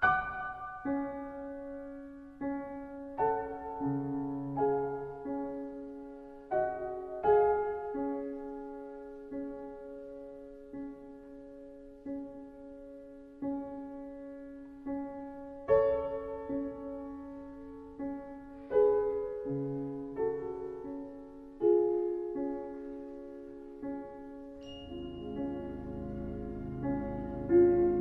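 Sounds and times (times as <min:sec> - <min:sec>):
gentle solo piano music: 0:00.0 - 0:28.0.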